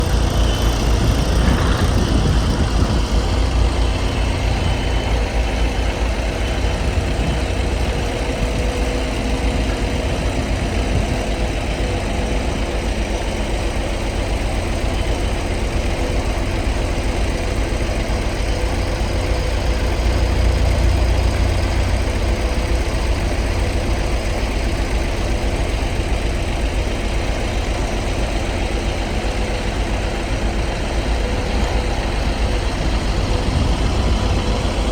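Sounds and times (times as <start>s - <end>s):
compactor engine drone: 0.0s - 34.9s.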